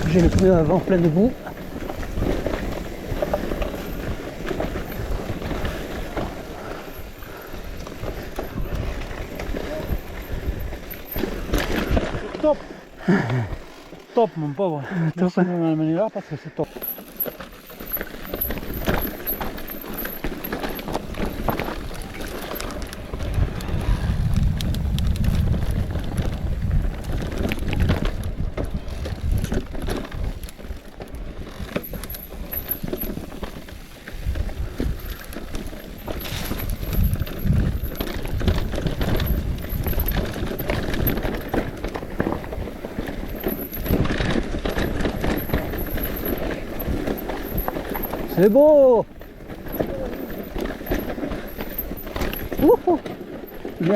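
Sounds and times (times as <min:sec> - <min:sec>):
wind rumbling on microphone: 0:00.0 - 0:12.2, 0:20.8 - 0:53.9
bike rattling over bumps: 0:00.0 - 0:53.9
bike tyres on dirt and stones: 0:00.0 - 0:53.9.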